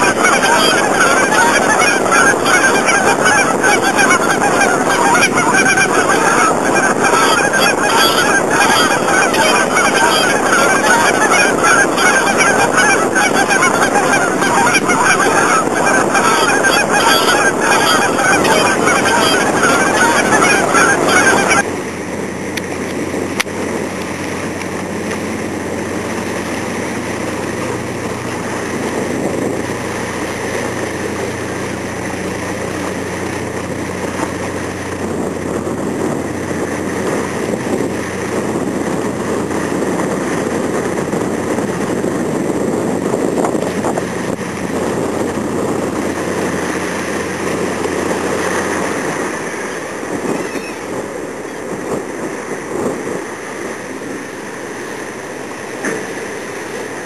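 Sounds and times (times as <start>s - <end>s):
boat engine droning: 0.0s - 57.0s
gulls calling: 0.0s - 57.0s.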